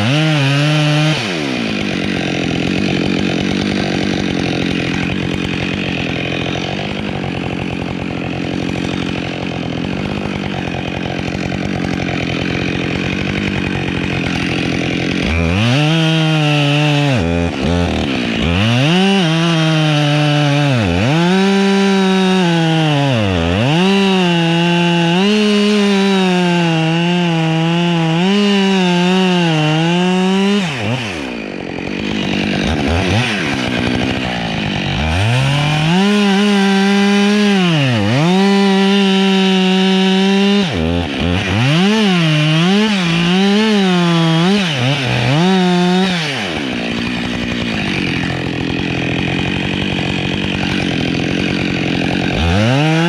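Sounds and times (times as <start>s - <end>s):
chainsaw cutting wood: 0.0s - 53.0s
chainsaw idling: 0.0s - 53.0s.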